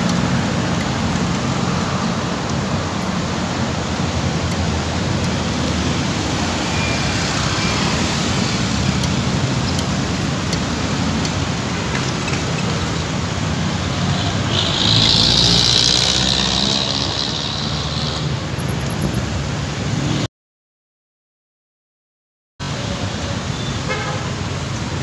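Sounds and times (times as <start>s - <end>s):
road traffic: 0.0s - 20.3s, 22.6s - 25.0s.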